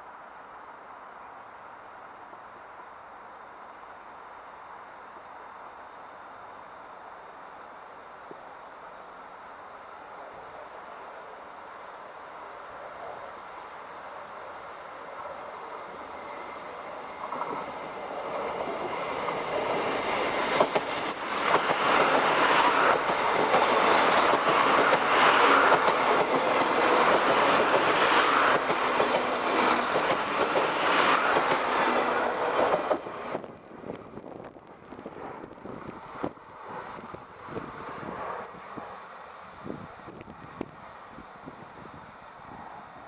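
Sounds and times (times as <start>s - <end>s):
diesel train passing: 4.1s - 43.0s.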